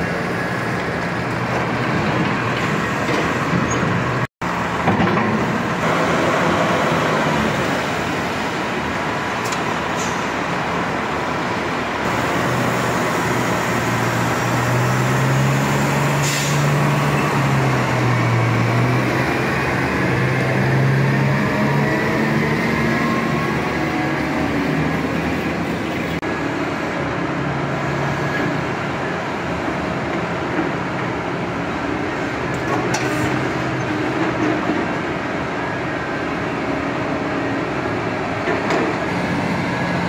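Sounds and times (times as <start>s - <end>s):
diesel engines running: 0.0s - 40.0s.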